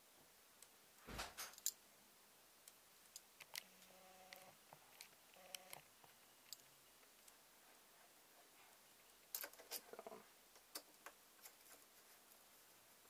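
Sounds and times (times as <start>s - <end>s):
faint steady tones: 1.7s - 13.0s.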